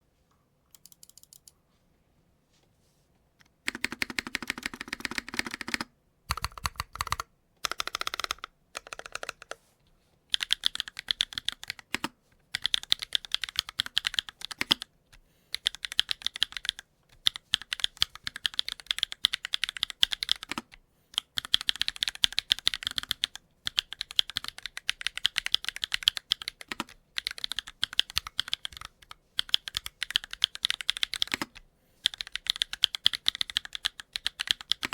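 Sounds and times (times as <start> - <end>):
mechanical keyboard typing: 0.7 - 1.5, 3.7 - 9.6, 10.3 - 14.9, 15.5 - 34.9.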